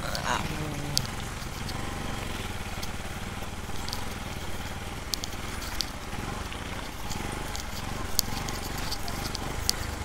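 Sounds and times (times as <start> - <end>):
motorcycle engine running: 0.0 - 10.0
sharp ticks: 0.1 - 10.0.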